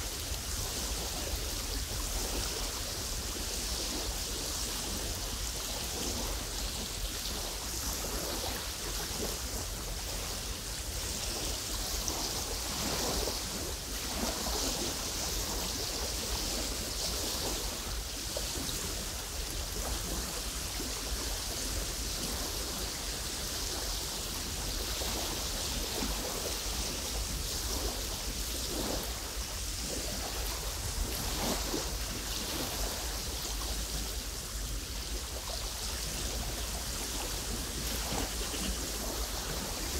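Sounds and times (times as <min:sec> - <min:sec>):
waves lapping against shore: 0:00.0 - 0:39.9.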